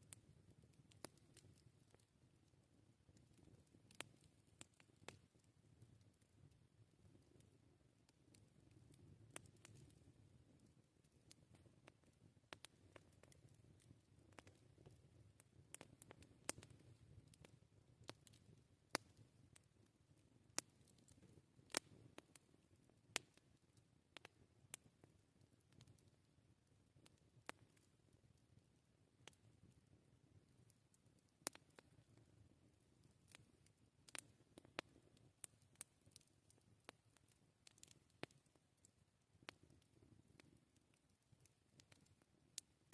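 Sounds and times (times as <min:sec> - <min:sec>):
low rumble of fire: 0:00.0 - 0:42.9
campfire pops and snaps: 0:00.1 - 0:02.0, 0:03.1 - 0:07.5, 0:08.1 - 0:19.7, 0:20.5 - 0:23.5, 0:24.2 - 0:26.2, 0:27.0 - 0:27.9, 0:29.2 - 0:29.5, 0:31.4 - 0:32.3, 0:33.0 - 0:42.9.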